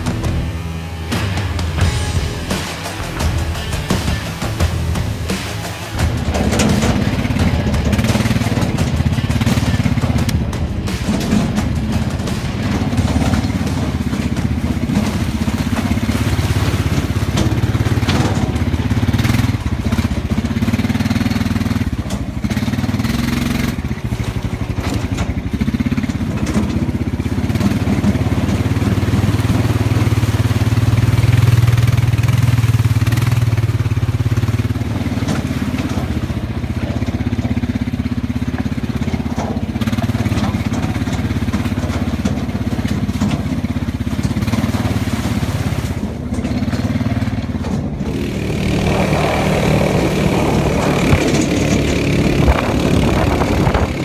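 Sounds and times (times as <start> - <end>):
knocks and rattles from bumps: 0.0 - 54.0
quad bike engine running: 0.0 - 54.0.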